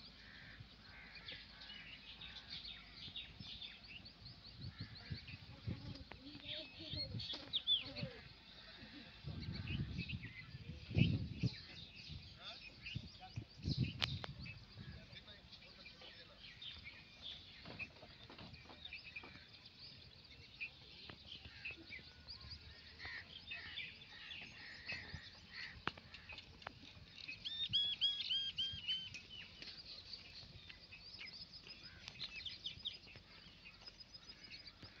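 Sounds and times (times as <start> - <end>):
birds chirping and calling: 0.0 - 35.0
faint rural ambience: 0.0 - 35.0.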